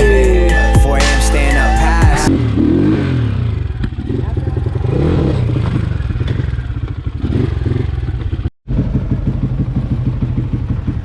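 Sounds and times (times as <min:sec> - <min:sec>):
dirt bike engine running: 0:01.9 - 0:11.0.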